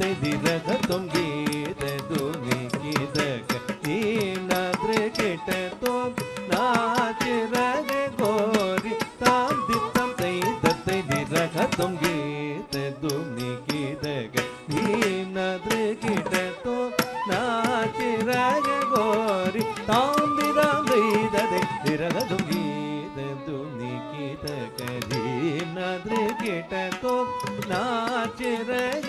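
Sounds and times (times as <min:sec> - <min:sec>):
hand drum strokes: 0:00.0 - 0:23.1, 0:24.4 - 0:29.0
ornamented melody: 0:00.0 - 0:29.0.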